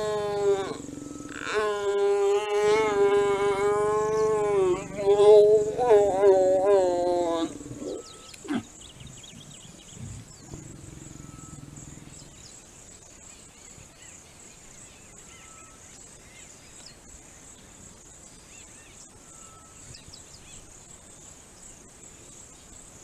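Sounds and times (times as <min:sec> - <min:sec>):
crickets chorus: 0:00.0 - 0:23.0.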